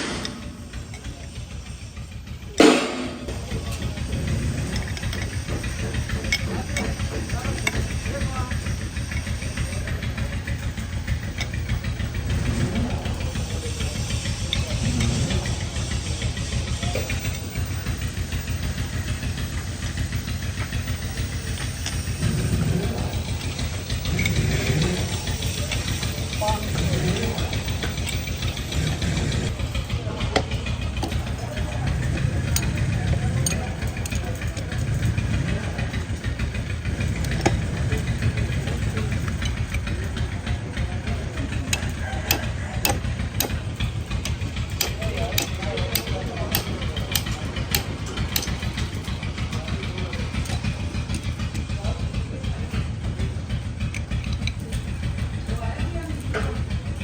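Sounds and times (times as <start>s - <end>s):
machinery running with low throb: 0.0s - 56.2s
sharp metallic clicks: 0.0s - 57.0s.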